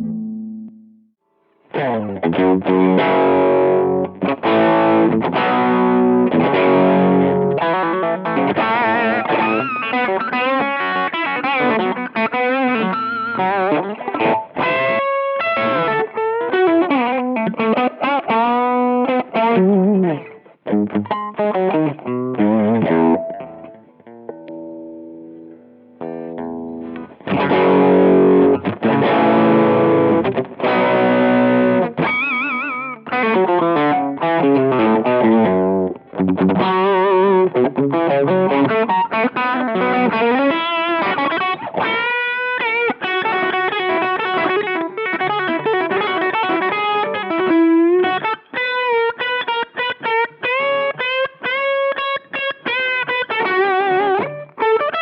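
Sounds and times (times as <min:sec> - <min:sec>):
overdriven electric guitar: 0:00.0 - 0:55.0.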